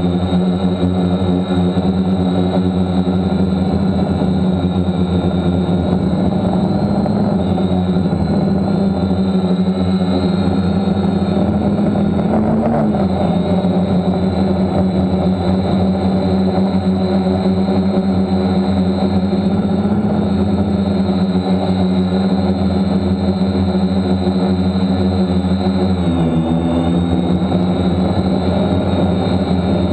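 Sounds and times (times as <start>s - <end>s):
drone motors humming: 0.0s - 29.9s.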